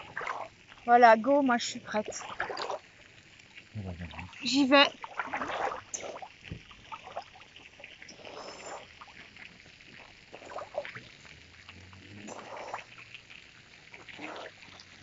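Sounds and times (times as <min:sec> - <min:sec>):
water splashing from swimmer: 0:00.0 - 0:00.9, 0:01.8 - 0:15.0.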